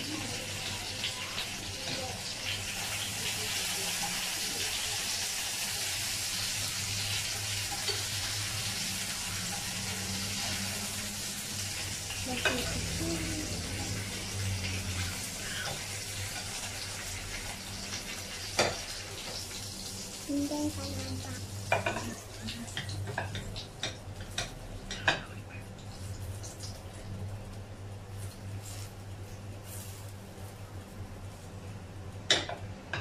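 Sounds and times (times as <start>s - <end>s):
meat sizzling in a frying pan: 0.0s - 27.1s, 27.9s - 30.6s.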